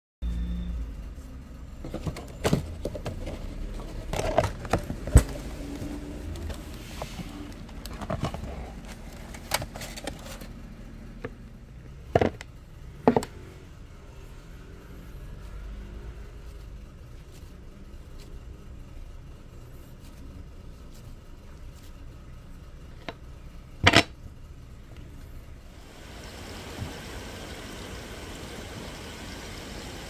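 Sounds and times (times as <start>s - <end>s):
low steady rumble: 0.2s - 30.0s.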